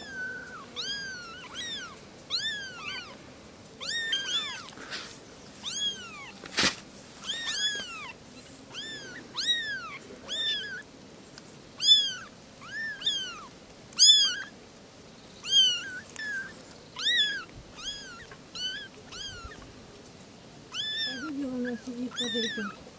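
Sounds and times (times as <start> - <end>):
kittens mewing: 0.0 - 3.2, 3.8 - 6.4, 7.2 - 10.9, 11.8 - 14.6, 15.4 - 19.6, 20.7 - 22.8.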